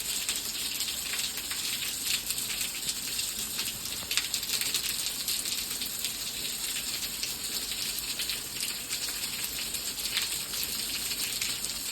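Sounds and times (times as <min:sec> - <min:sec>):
rain pattering on a surface: 0:00.0 - 0:11.9.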